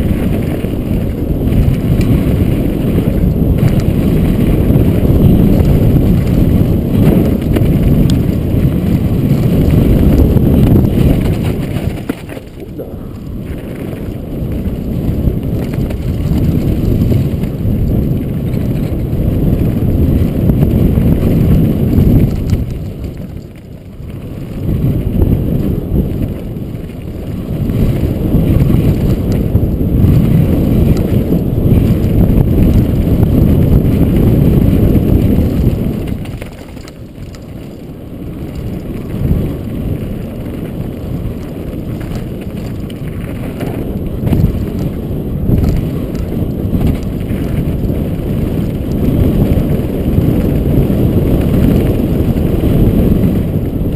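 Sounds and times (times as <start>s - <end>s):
mountain bike rumbling and rattling: 0.0s - 53.9s
wind buffeting microphone: 0.0s - 53.9s.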